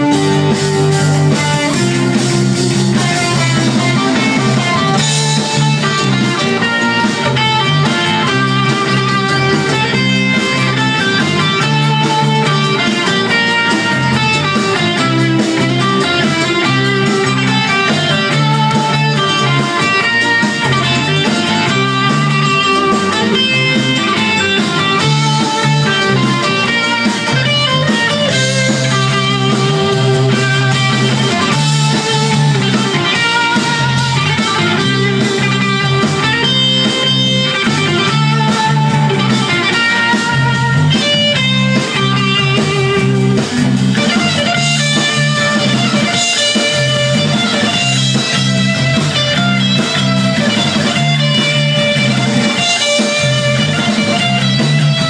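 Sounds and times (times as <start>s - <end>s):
bass guitar line: 0.0s - 55.0s
electric guitar lead lines: 0.0s - 55.0s.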